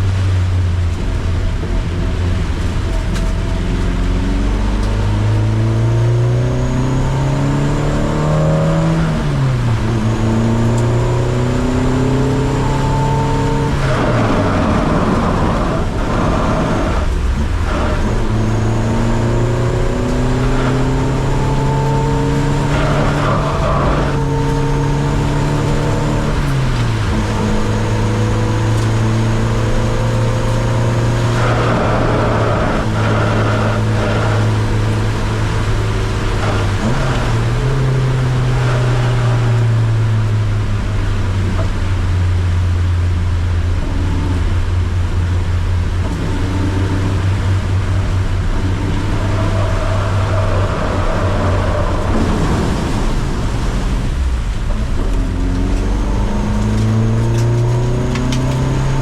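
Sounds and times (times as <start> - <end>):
car engine revving: 0.0 - 59.0
heavy rain and tyre spray: 0.0 - 59.0.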